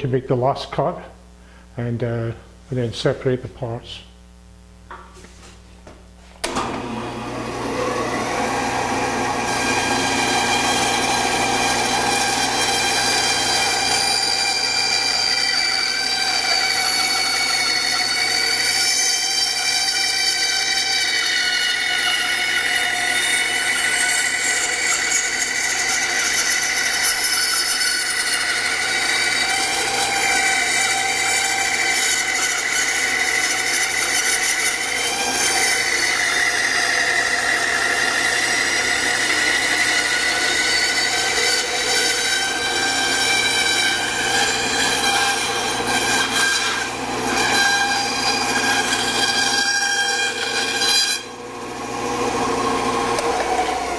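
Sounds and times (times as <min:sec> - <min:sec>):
band saw running with whine: 0:06.4 - 0:53.9.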